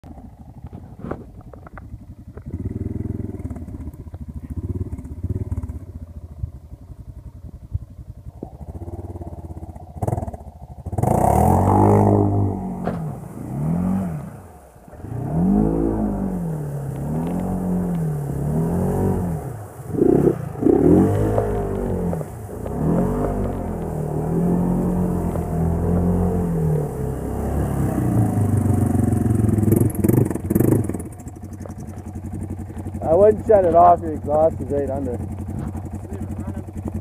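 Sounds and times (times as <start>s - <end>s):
atv engine revving: 0.0s - 37.0s.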